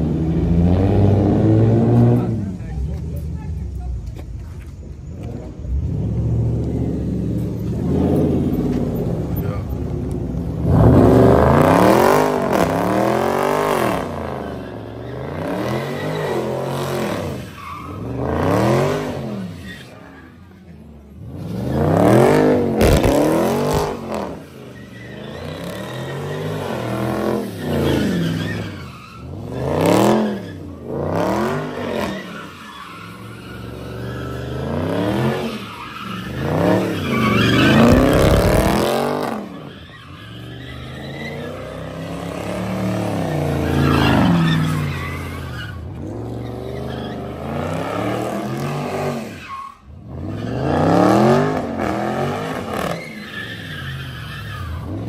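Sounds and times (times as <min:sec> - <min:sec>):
tyres skidding and squealing: 0:00.0 - 0:55.0
car engine revving: 0:05.2 - 0:53.1.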